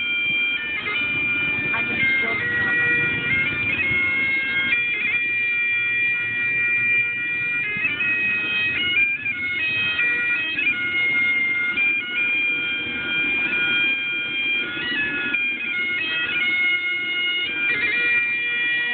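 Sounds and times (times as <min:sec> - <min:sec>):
bagpipes playing a tune: 0:00.0 - 0:18.9.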